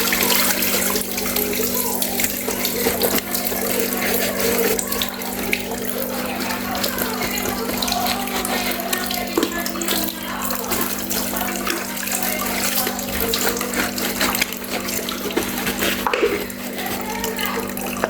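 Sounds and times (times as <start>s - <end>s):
water running from tap: 0.0s - 18.0s.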